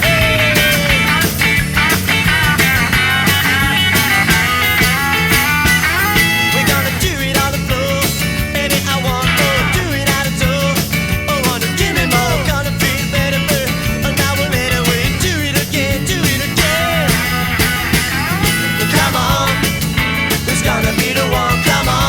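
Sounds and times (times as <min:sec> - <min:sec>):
rock music with guitars: 0:00.0 - 0:22.0.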